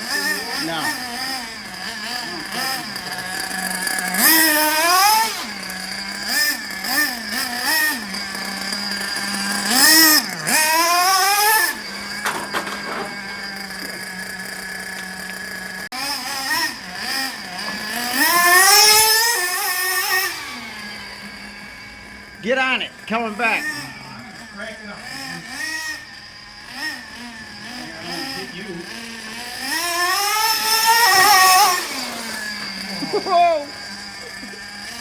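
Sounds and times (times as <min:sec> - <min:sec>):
nitro engine revving and idling: 0:00.0 - 0:35.0.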